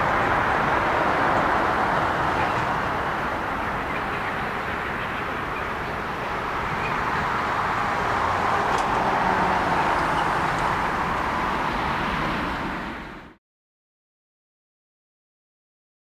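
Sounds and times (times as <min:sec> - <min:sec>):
jet engines roaring: 0:00.0 - 0:13.3.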